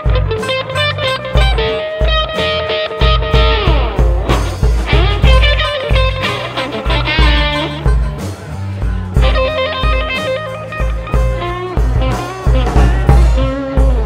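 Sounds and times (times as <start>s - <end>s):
amplified harmonica: 0.0s - 14.0s
bass: 0.0s - 14.0s
drums: 0.0s - 14.0s
electric guitar: 0.0s - 14.0s.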